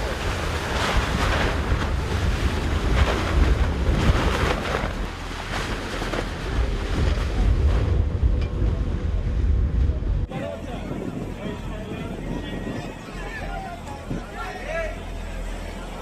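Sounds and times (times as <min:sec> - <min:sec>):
wind buffeting microphone: 0:00.0 - 0:14.6.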